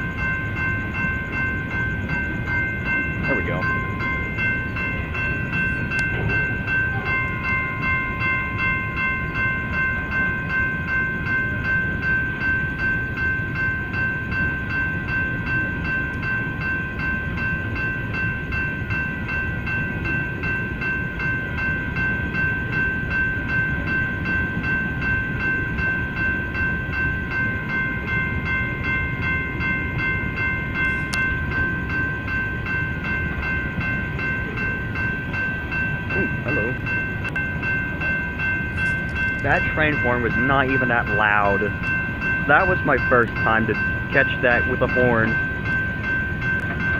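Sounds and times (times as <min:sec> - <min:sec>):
crossing warning bell ringing: 0:00.0 - 0:46.9
train wheels rumbling on rails: 0:00.0 - 0:46.9.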